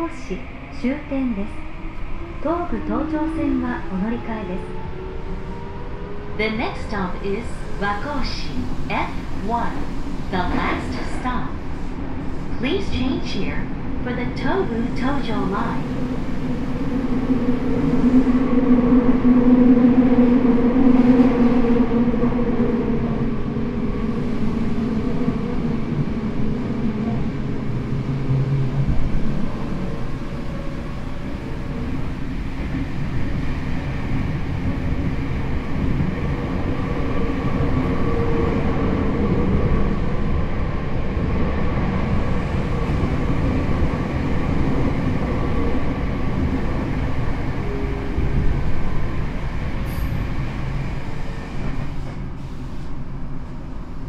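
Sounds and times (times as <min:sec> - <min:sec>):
train wheels rumbling on rail: 0:01.2 - 0:54.0.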